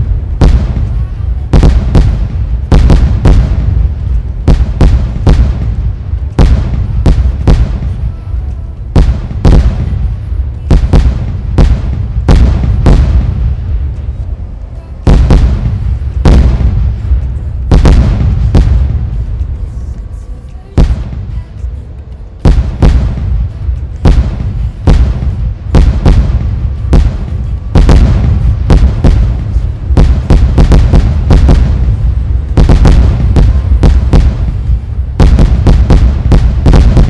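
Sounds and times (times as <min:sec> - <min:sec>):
fireworks bangs: 0:00.0 - 0:20.0, 0:20.6 - 0:21.6, 0:22.4 - 0:37.0
deep rumble: 0:00.0 - 0:37.0.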